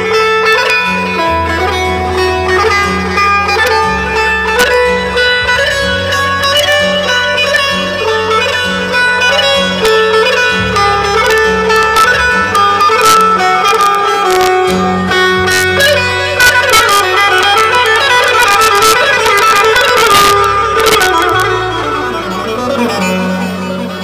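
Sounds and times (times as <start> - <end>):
keyboard melody: 0.0 - 24.0
steady bass: 0.0 - 24.0.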